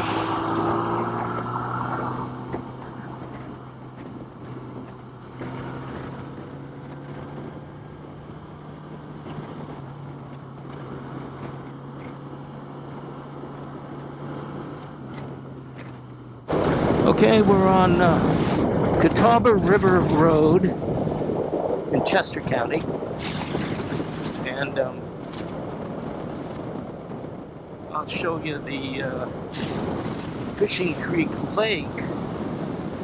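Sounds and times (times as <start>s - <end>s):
road and wind noise: 0.0s - 33.0s.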